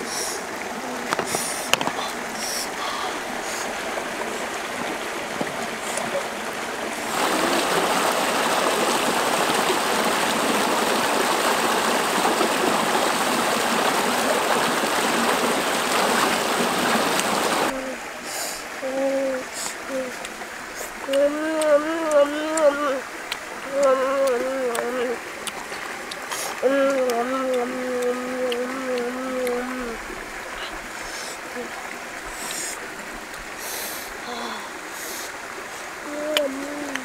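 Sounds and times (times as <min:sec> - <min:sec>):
river water running: 0:00.0 - 0:37.0
water cascading over rocks: 0:00.0 - 0:37.0.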